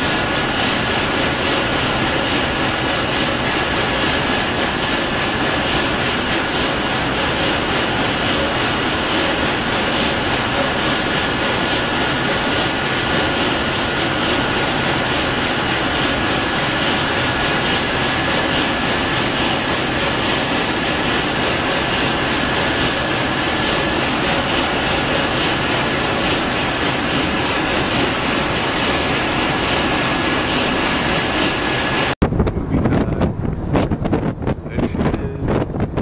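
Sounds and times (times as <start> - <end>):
large diesel engine running: 0.0 - 35.4.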